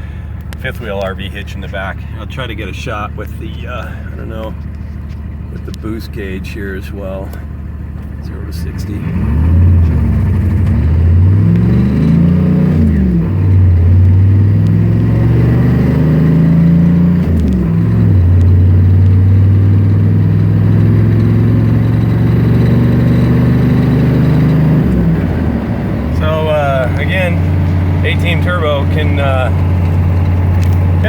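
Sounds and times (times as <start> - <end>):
diesel truck engine accelerating: 0.0 - 31.0.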